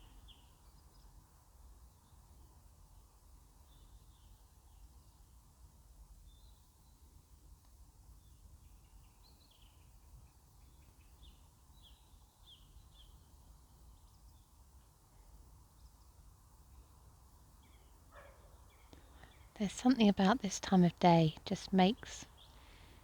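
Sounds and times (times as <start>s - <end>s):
faint distant birdsong: 0.0s - 23.0s.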